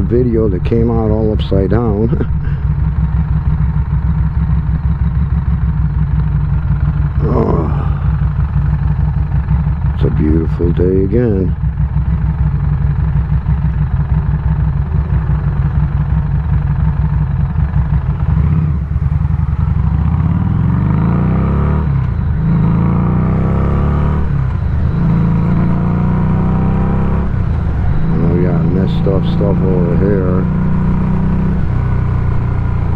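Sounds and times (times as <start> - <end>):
motorcycle engine shifting gears: 0.0 - 32.9.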